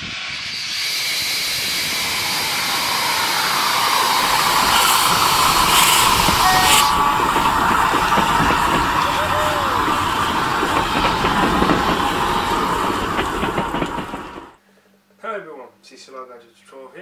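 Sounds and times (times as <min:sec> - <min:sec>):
steam locomotive hissing steam: 0:00.0 - 0:14.6.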